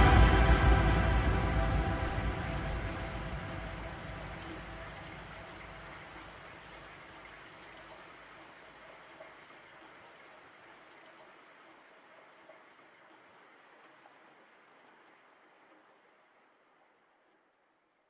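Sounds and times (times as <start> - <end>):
steady rain-like hiss: 0.0 - 18.0.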